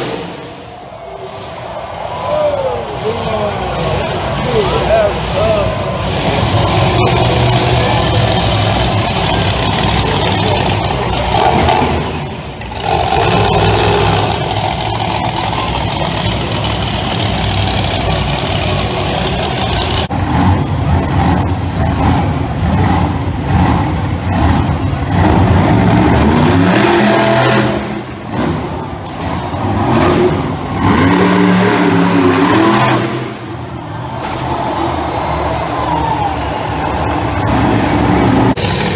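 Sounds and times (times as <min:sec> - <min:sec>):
monster truck engines revving: 0:00.0 - 0:38.9.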